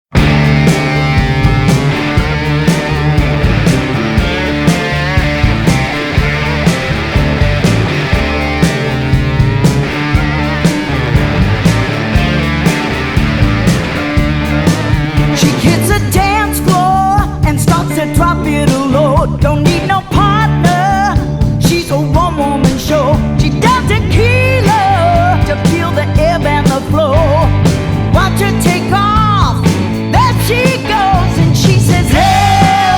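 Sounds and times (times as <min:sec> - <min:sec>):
lead guitar with bent notes: 0:00.1 - 0:18.3, 0:19.3 - 0:32.9
blues-rock band playing: 0:00.1 - 0:32.9.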